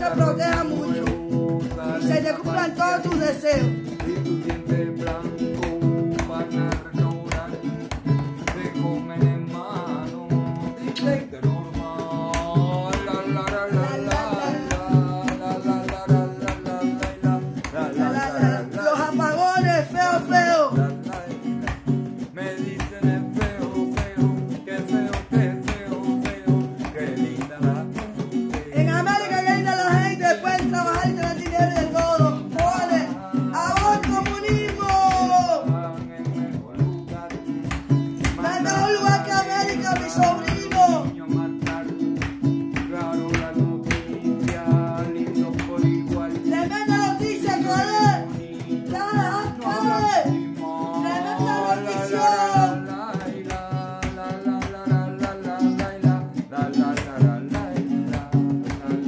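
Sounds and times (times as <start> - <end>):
nylon-string guitar strumming: 0.0 - 59.0.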